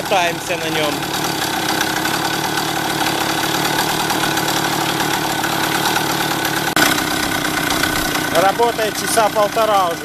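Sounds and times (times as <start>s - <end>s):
moped engine idling: 0.0s - 10.0s.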